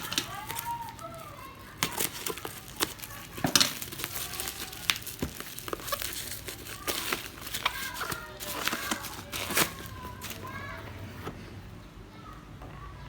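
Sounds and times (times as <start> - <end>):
crinkling: 0.0 - 11.3.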